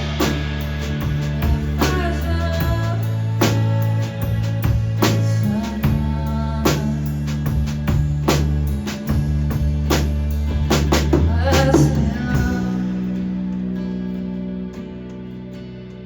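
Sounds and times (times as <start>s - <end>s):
drum kit and cymbals: 0.0s - 12.9s
bass and guitar chords: 0.0s - 16.0s.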